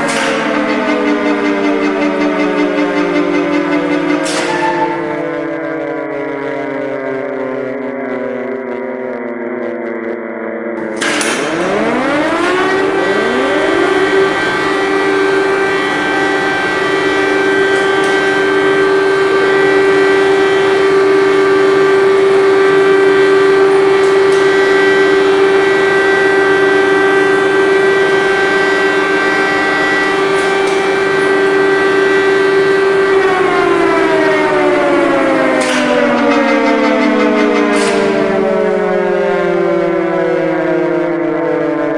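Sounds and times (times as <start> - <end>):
civil defense sirens wailing: 0.0 - 41.9.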